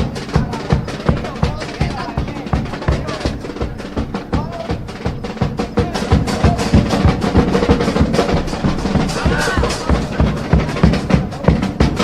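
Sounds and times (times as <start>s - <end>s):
bass drum beat: 0.0s - 12.0s
carnival band instrumental: 0.0s - 12.0s.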